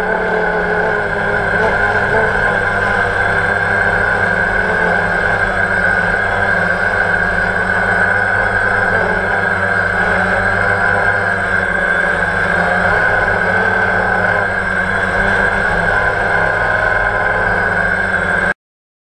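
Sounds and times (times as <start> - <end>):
drone propellers whirring: 0.0 - 18.6.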